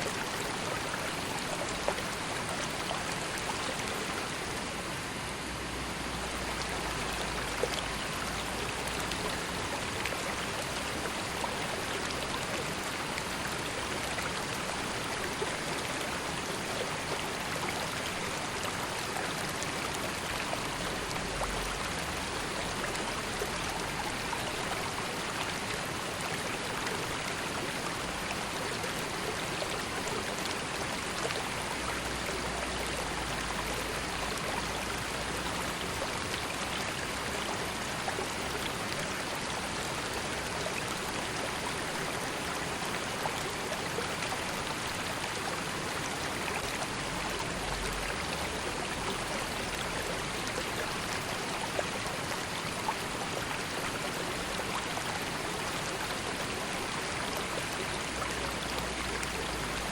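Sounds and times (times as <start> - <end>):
river water babbling over stones: 0.0 - 59.9
small water splashes and drips: 6.2 - 45.9, 46.6 - 59.9.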